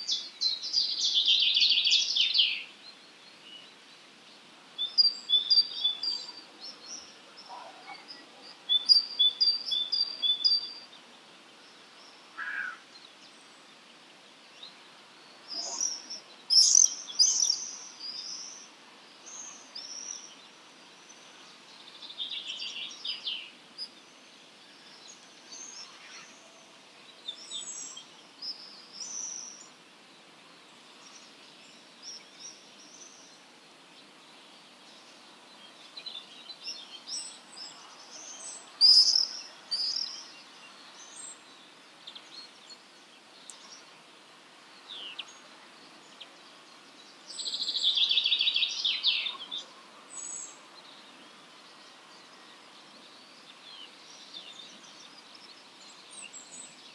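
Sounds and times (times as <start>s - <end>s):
faint background hiss: 0.0s - 56.9s
songbirds chirping and trilling: 0.0s - 56.9s.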